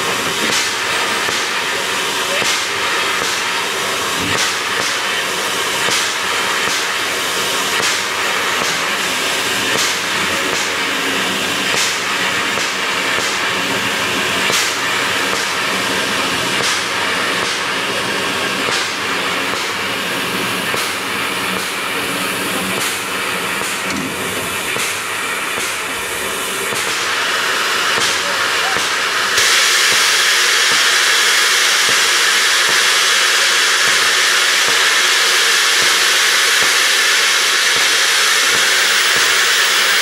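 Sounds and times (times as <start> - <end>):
sharp steam chuffs: 0.0 - 40.0
steam locomotive hissing: 0.0 - 40.0.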